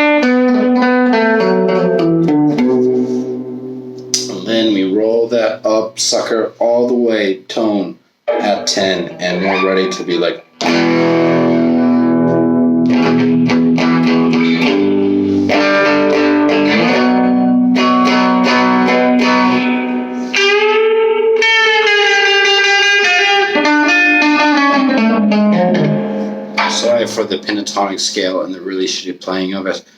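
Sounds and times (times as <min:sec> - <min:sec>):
clean electric guitar: 0:00.0 - 0:06.6, 0:08.2 - 0:28.3.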